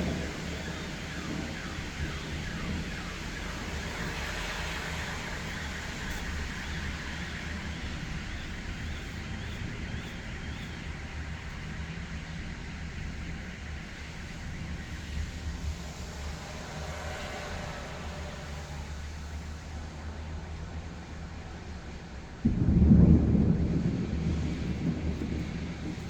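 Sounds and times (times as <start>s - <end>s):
rain hiss: 0.0s - 26.0s.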